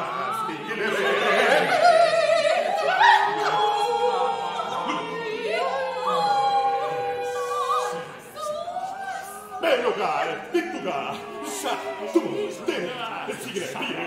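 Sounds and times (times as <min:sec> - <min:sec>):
unaccompanied vocal ensemble singing: 0:00.0 - 0:14.0.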